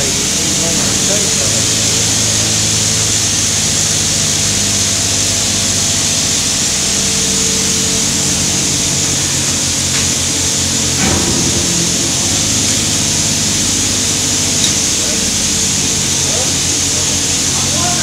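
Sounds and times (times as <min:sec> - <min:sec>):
drilling machinery droning: 0:00.0 - 0:18.0
high hiss: 0:00.0 - 0:18.0.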